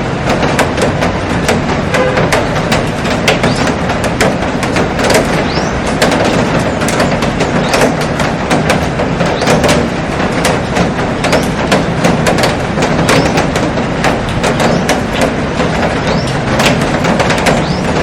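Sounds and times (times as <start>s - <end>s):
heavy rain on glass roof: 0.0s - 18.0s
sharp drop taps: 0.2s - 18.0s.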